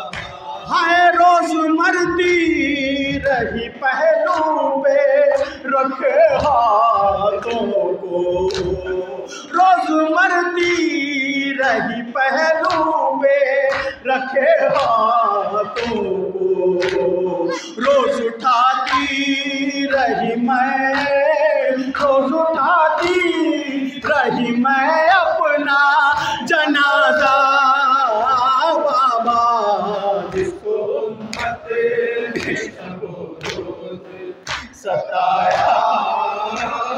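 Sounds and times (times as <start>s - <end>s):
man singing a lament through a pa: 0.0s - 36.9s.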